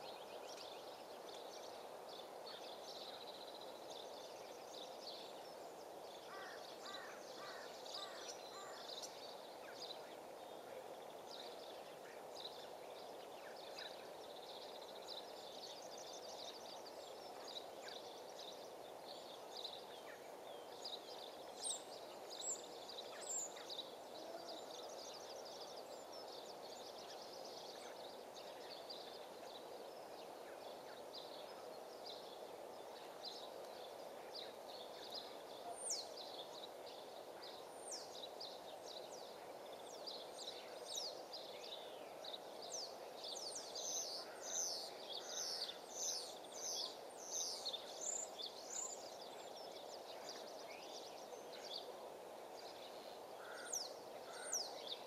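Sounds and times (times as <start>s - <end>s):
low outdoor background noise: 0.0s - 55.0s
small birds chirping and singing: 0.0s - 55.0s.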